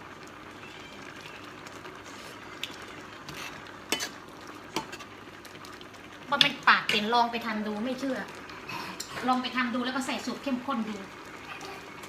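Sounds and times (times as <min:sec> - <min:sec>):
cooking hiss: 0:00.0 - 0:12.0.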